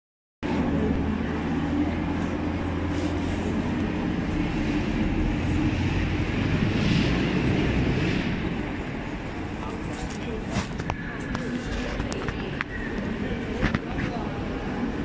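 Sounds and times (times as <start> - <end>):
train engine humming: 0.5 - 13.5.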